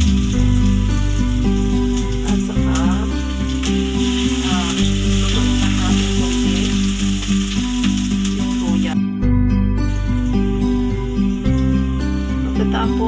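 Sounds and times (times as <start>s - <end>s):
ginger sizzling in oil: 0.0s - 9.0s, 9.9s - 13.0s
background music: 0.0s - 13.0s.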